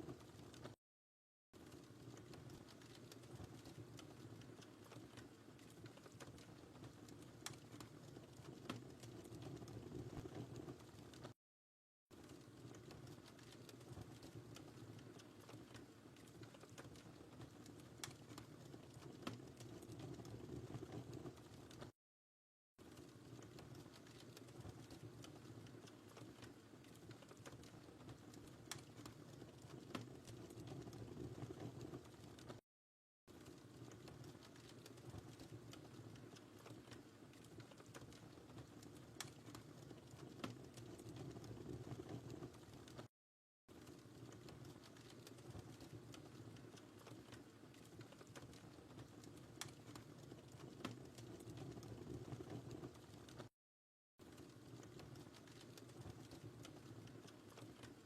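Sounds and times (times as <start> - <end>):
fireplace wood fire crackling: 0.0 - 0.8, 1.6 - 11.4, 12.1 - 22.0, 22.8 - 32.6, 33.3 - 43.1, 43.7 - 53.5, 54.2 - 58.0.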